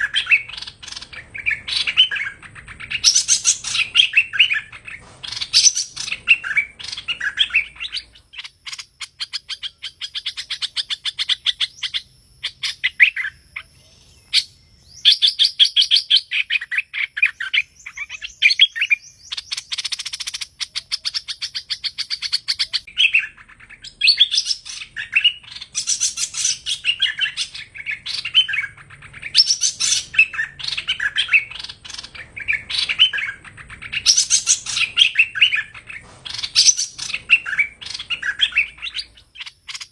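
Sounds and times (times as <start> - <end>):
songbird trilling chirps: 0.0 - 39.9.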